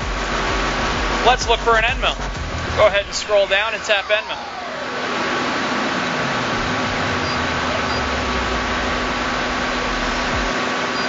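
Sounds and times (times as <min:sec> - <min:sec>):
low rumble: 0:00.0 - 0:10.6
constant tones: 0:00.0 - 0:11.0
machinery and ventilation hum: 0:00.0 - 0:11.0.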